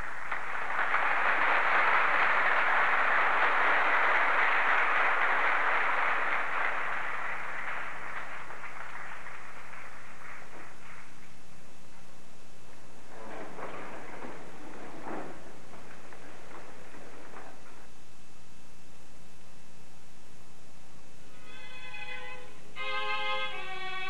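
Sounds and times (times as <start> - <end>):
audience applauding: 0.0 - 18.0, 21.4 - 24.0.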